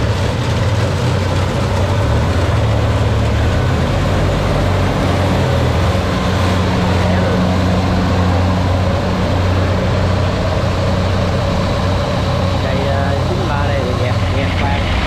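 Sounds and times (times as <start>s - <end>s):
combine harvester engine hum: 0.0s - 15.0s
cutter and threshing noise: 0.0s - 15.0s.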